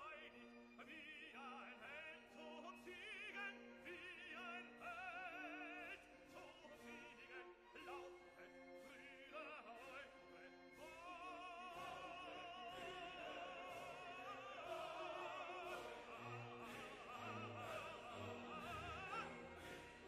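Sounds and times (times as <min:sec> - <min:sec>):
operatic voice singing: 0:00.0 - 0:20.0.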